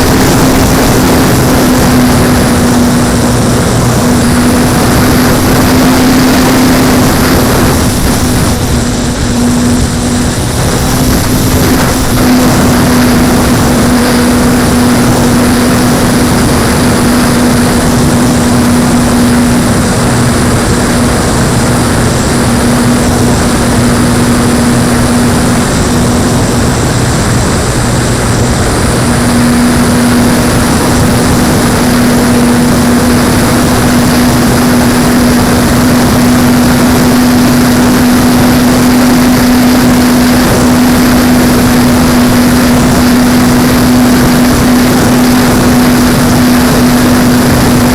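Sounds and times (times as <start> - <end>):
electric motor and propeller: 0.0 - 47.9
heavy wind noise: 0.0 - 47.9.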